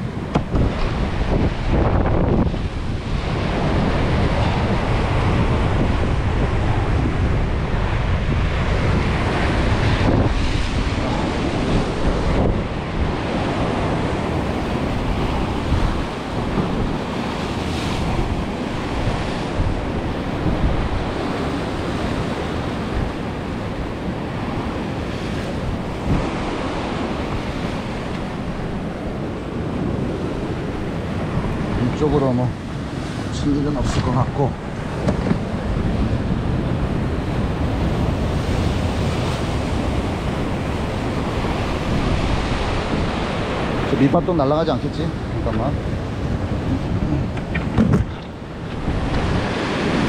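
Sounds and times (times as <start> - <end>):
surf breaking over rocks: 0.0 - 50.0
wind buffeting microphone: 0.0 - 50.0.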